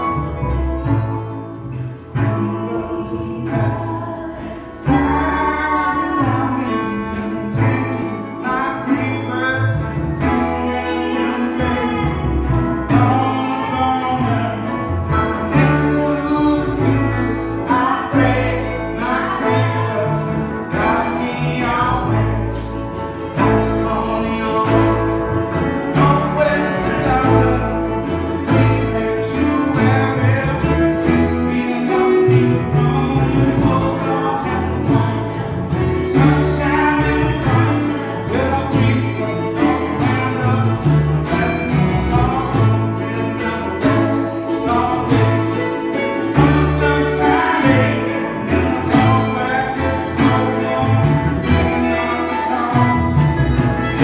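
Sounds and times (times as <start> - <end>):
harmonica: 0.0 - 54.0
person singing: 0.0 - 54.0
piano: 0.0 - 54.0
plucked double bass: 0.0 - 54.0
strummed acoustic guitar: 0.0 - 54.0.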